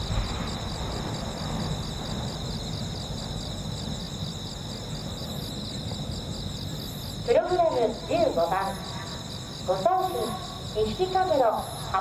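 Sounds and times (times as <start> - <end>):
insects chirring: 0.0 - 12.0
low background rumble: 0.0 - 12.0.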